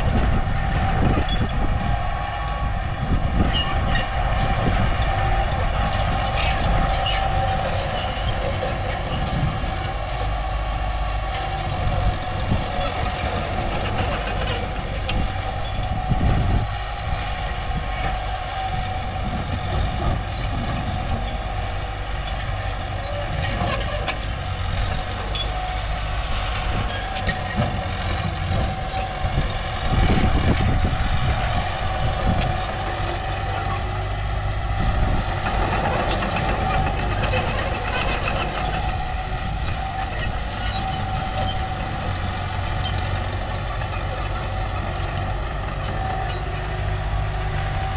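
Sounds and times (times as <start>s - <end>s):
diesel engine rumble: 0.0s - 47.9s.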